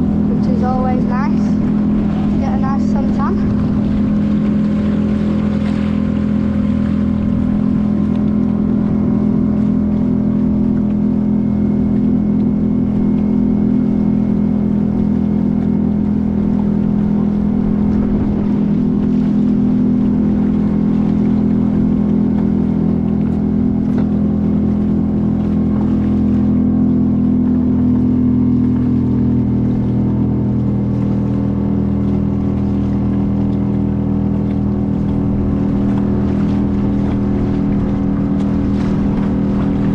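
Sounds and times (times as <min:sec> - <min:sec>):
motorboat engine humming: 0:00.0 - 0:39.9.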